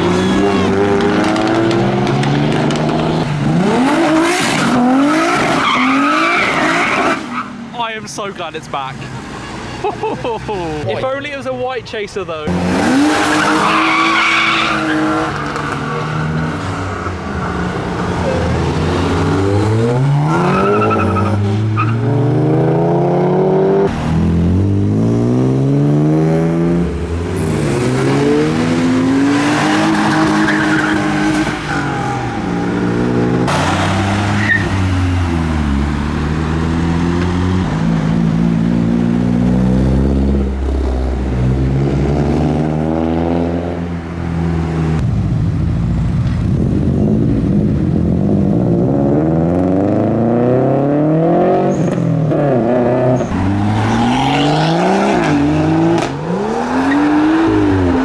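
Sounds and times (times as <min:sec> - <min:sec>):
cars accelerating through gears: 0:00.0 - 0:07.4, 0:12.5 - 0:43.8, 0:48.5 - 0:58.0.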